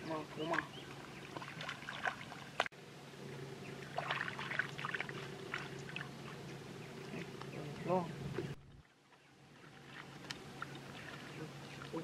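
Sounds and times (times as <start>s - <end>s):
muddy water splashing: 0.0s - 2.7s, 3.6s - 12.0s.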